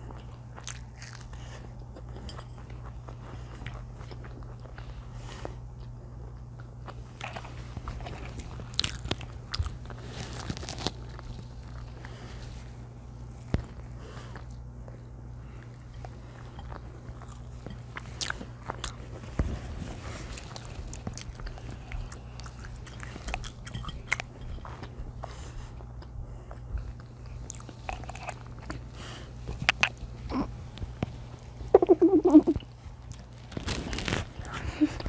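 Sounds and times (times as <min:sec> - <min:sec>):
chewing and biting food: 0:00.0 - 0:35.0
steady low hum: 0:00.0 - 0:35.0.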